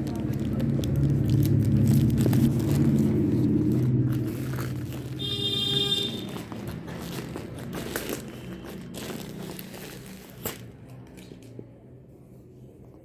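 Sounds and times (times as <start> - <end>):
packaging crinkling: 0.0 - 11.4.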